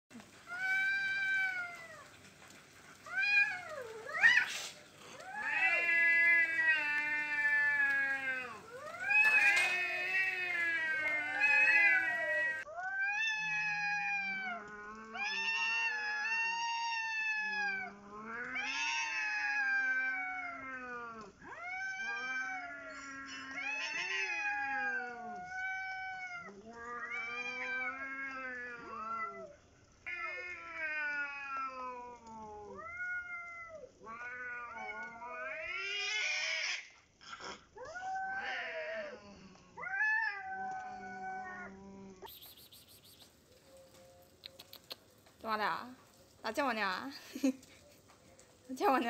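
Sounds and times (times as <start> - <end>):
cats yowling in a fight: 0.3 - 42.3.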